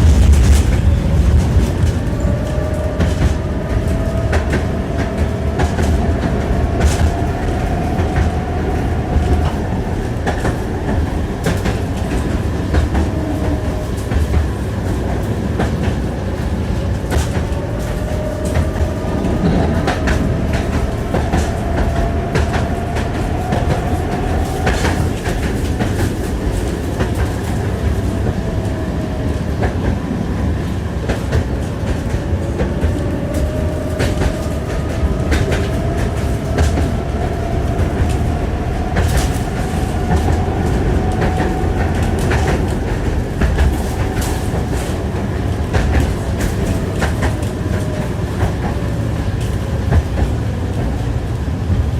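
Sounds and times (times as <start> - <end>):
tram wheels clattering over rail joints: 0.0 - 51.9.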